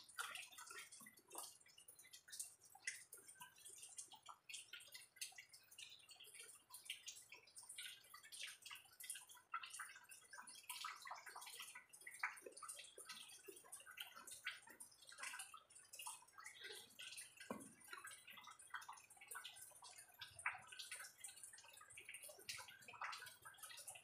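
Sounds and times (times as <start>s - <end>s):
small clicks and ticks: 0.0s - 24.0s.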